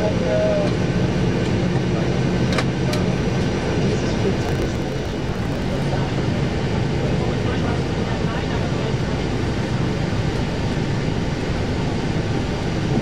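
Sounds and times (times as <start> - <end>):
jet airliner noise: 0.0 - 13.0.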